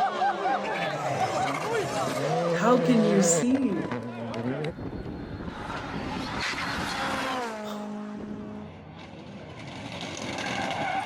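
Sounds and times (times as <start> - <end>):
rally car engine at speed: 0.0 - 11.0.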